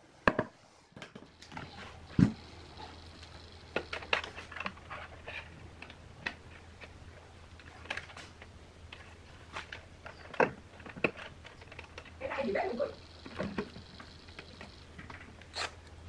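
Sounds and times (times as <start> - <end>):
faint low hum: 0.0 - 16.0
small parts clicking and knocking: 1.0 - 16.0.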